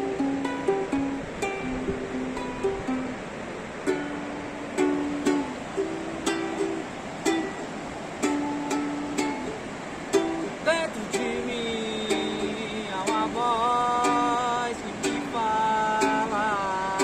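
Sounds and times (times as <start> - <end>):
acoustic song with plucked strings: 0.0 - 17.0.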